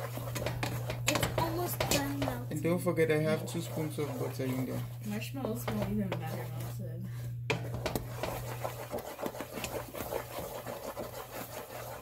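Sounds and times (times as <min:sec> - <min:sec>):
spoon scraping pot: 0:00.0 - 0:12.0
steady low hum: 0:00.0 - 0:12.0.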